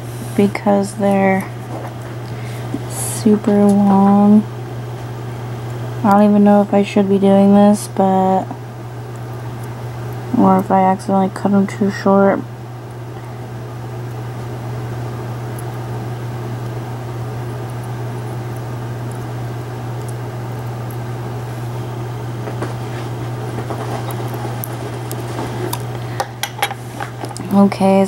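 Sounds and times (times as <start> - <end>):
low hum with fan noise: 0.0 - 28.0.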